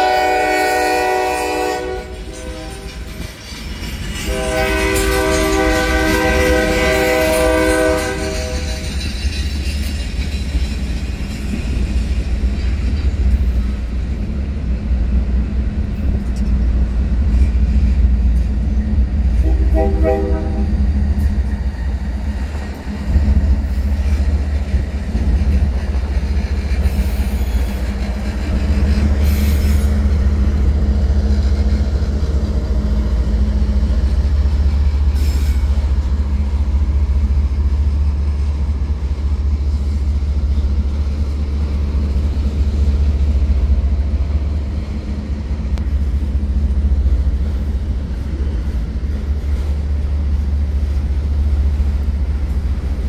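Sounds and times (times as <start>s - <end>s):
diesel locomotive engine rumble: 0.0s - 53.0s
rail cars rolling: 0.0s - 53.0s.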